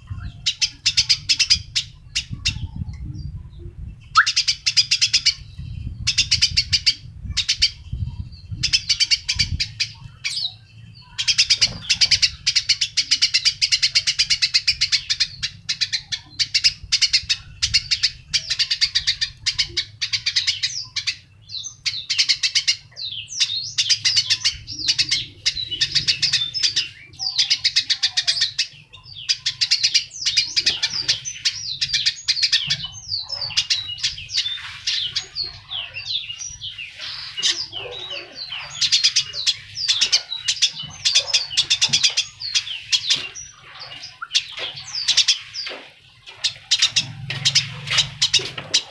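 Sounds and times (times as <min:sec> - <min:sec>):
songbird singing trills: 0:00.0 - 0:48.9.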